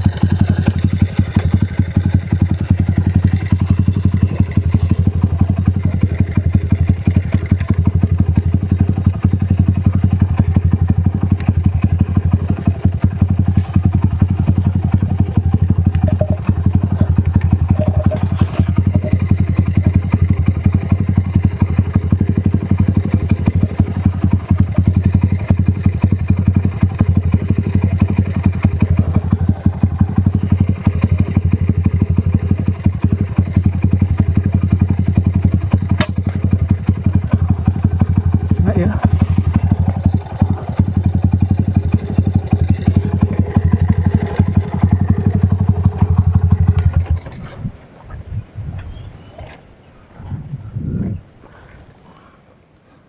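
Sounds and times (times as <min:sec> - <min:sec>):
dirt bike engine idling: 0:00.0 - 0:48.0.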